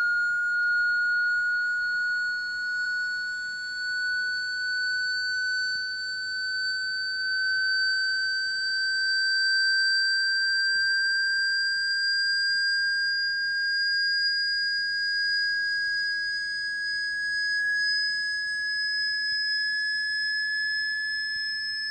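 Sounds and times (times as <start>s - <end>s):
high-pitched rising sine tone: 0.0s - 21.9s.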